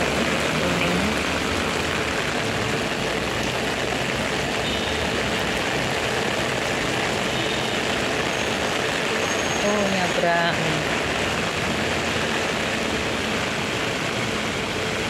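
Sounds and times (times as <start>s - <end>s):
heavy rain on wet street: 0.0s - 15.0s.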